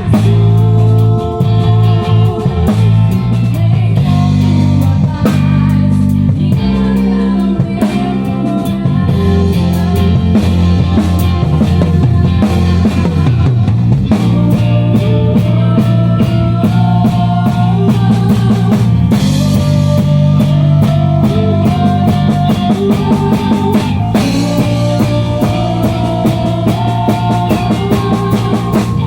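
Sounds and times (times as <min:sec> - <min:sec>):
drum kit beat: 0:00.0 - 0:29.0
guitar: 0:00.0 - 0:29.0
sustained bass notes: 0:00.0 - 0:29.0.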